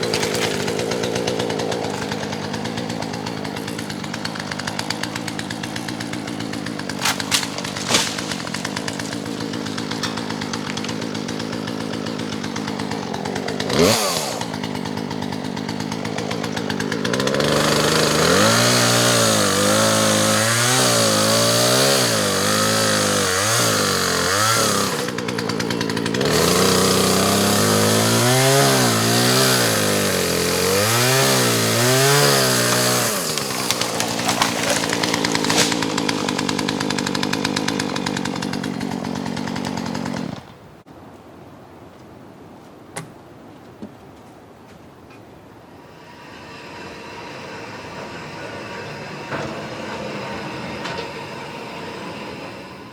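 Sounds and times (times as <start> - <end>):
chainsaw cutting wood: 0.0 - 40.6, 46.0 - 52.9.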